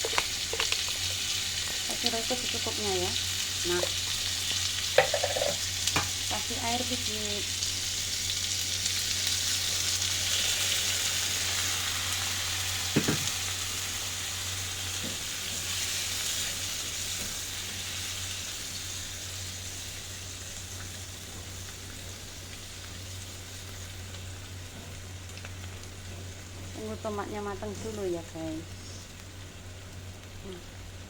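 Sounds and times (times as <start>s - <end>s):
tomatoes sizzling in frying pan: 0.0s - 31.0s.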